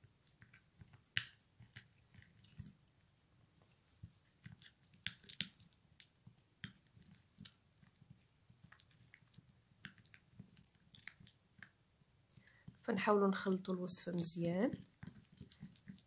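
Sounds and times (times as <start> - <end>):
spoon stirring thick paste: 0.2 - 13.6, 14.2 - 16.0.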